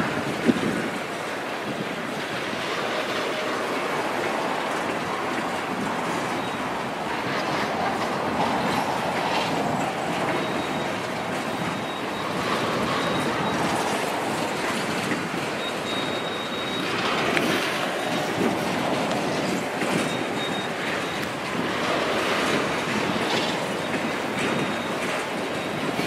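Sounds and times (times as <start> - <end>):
train wheels rumbling and clacking: 0.0 - 26.0
high wheel squeal: 2.1 - 26.0.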